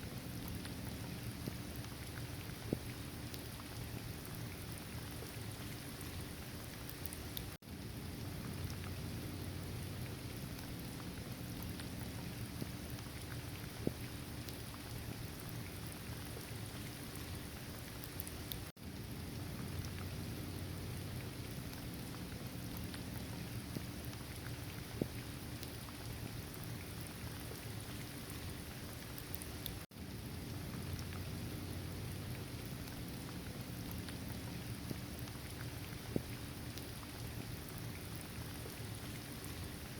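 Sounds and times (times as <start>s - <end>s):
heavy rain: 0.2s - 39.9s.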